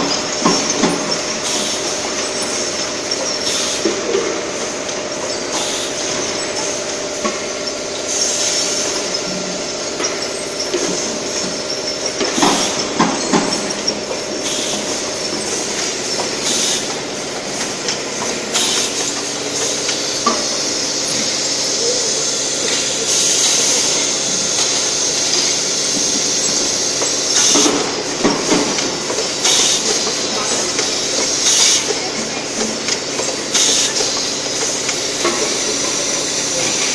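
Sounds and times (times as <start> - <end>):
machine mechanical clatter: 0.0 - 36.9
pneumatic air hiss: 0.5 - 36.9.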